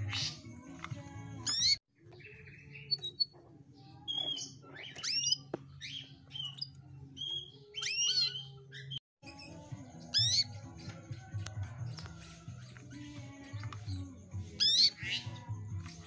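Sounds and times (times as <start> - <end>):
canary chirping: 0.0 - 16.0.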